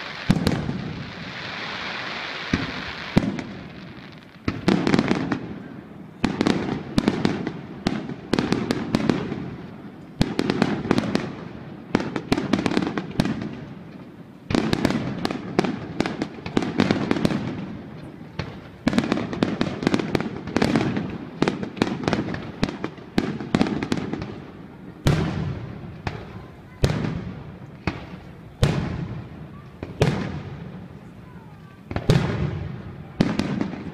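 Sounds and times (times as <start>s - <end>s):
fireworks bangs echoing: 0.0s - 33.9s.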